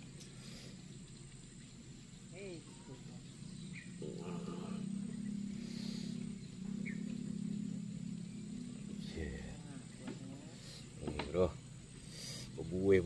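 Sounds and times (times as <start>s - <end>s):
distant engine drone: 0.0s - 13.0s.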